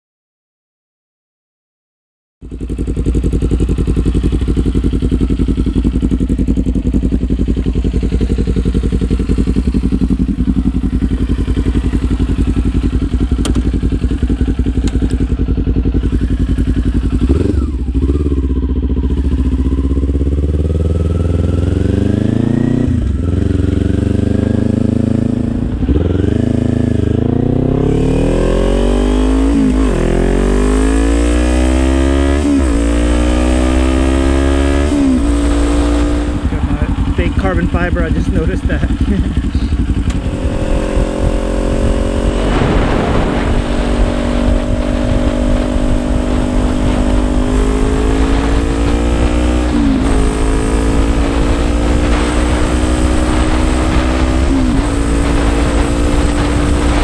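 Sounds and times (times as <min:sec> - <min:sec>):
motorcycle engine idling and accelerating: 0:02.4 - 0:57.0.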